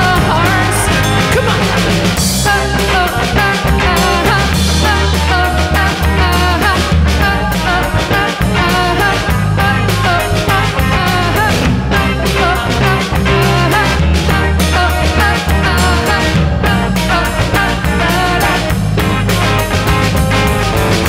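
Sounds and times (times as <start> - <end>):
live band playing: 0.0 - 21.0
steady drum beat: 0.0 - 21.0.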